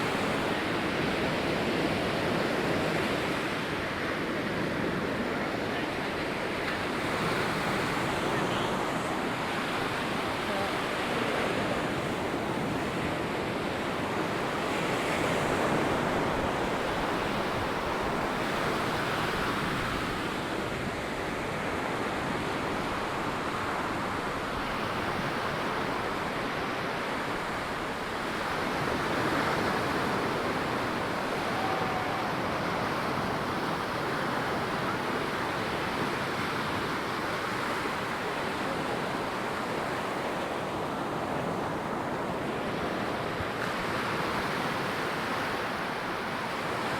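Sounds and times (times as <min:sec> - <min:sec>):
surf washing on sandy beach: 0:00.0 - 0:46.9.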